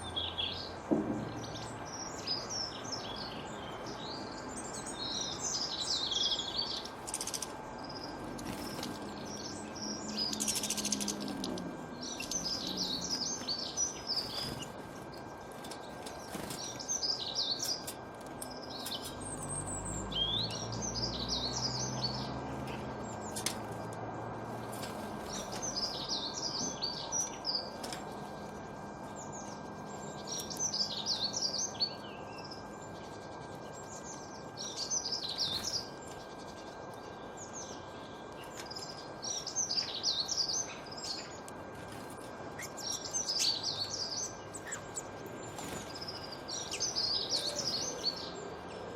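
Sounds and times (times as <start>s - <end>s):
steady background hum: 0.0s - 48.9s.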